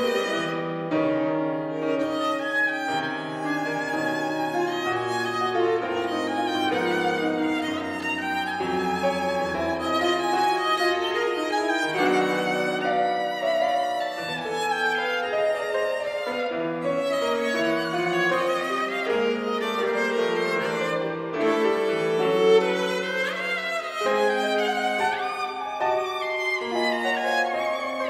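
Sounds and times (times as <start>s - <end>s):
bowed viola: 0.0s - 28.0s
piano accompaniment: 0.0s - 28.0s.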